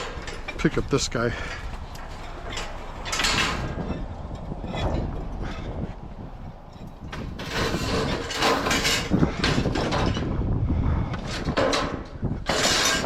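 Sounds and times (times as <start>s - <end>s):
scrap metal clanking and rattling: 0.0s - 10.4s, 11.0s - 13.0s.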